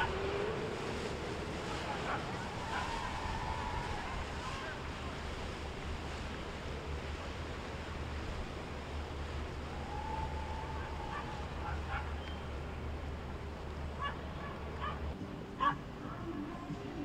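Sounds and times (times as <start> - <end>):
wind on microphone: 0.0 - 15.7
boat engines passing: 0.0 - 17.0
surf: 0.0 - 17.0.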